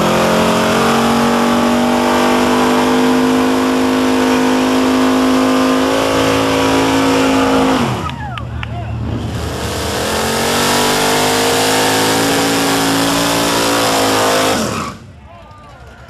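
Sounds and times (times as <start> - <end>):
car engine revving high: 0.0 - 8.3, 8.9 - 15.0.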